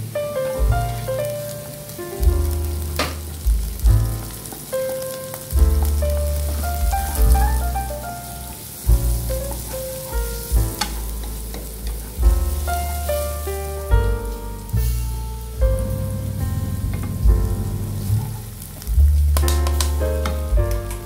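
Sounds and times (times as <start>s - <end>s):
background music: 0.0s - 21.0s
onion sizzling in oil: 0.0s - 21.0s.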